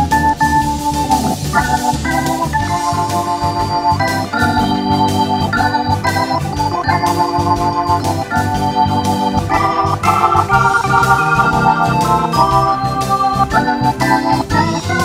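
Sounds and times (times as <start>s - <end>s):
organ sound keyboard chords: 0.0s - 15.0s.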